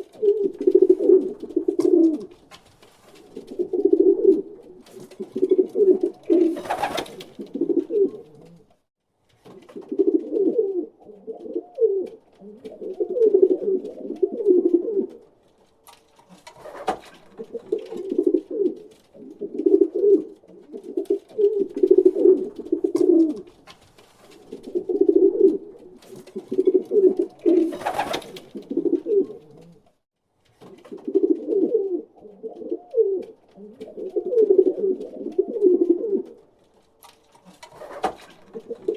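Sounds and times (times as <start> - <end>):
pigeons cooing: 0.0 - 2.4, 3.2 - 8.7, 9.6 - 15.3, 16.4 - 23.6, 24.4 - 29.9, 30.9 - 36.4, 37.5 - 38.9.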